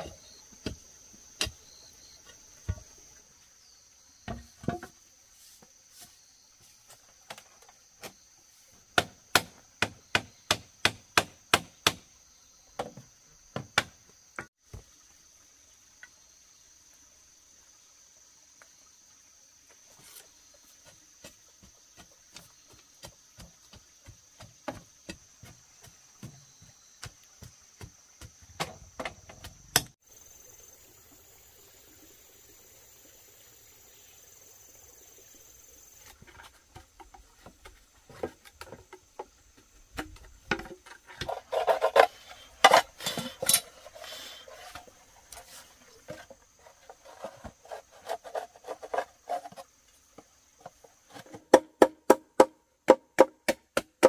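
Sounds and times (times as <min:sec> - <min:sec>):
forest insects droning: 0:00.0 - 0:54.0.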